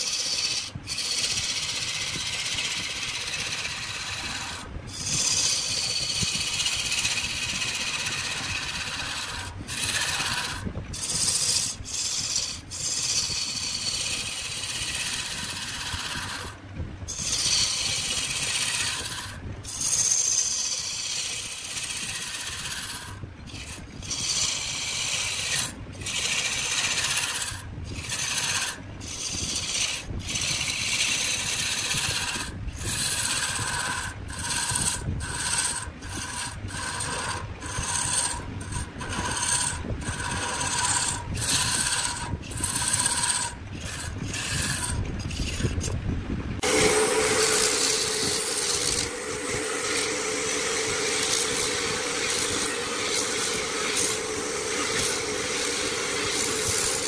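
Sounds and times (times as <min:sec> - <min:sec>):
wood turning on a lathe: 0:00.0 - 0:46.0, 0:46.6 - 0:57.0.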